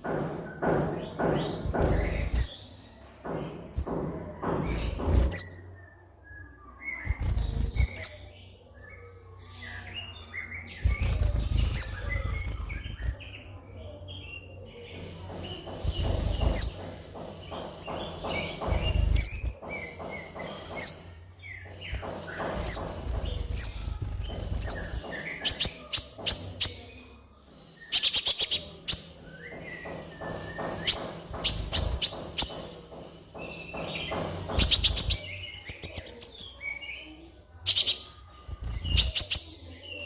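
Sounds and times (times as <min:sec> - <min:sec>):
bird chipping and trilling: 0:00.6 - 0:02.9, 0:03.6 - 0:06.0, 0:06.7 - 0:40.0.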